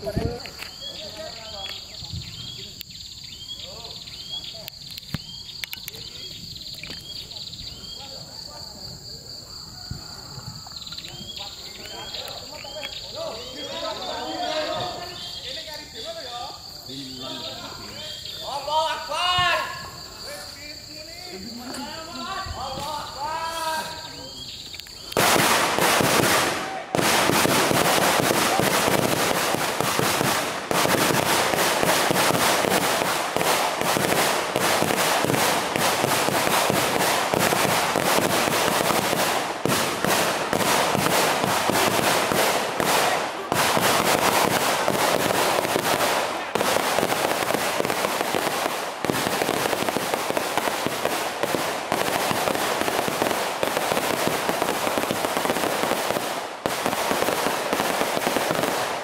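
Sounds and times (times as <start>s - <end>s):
firecrackers crackling: 0.0s - 59.0s.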